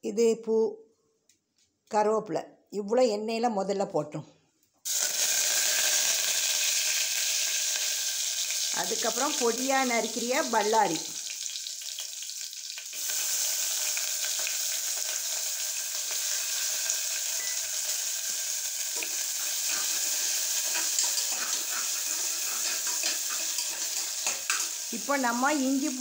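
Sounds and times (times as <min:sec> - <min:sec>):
onions sizzling in oil: 0:04.9 - 0:26.0.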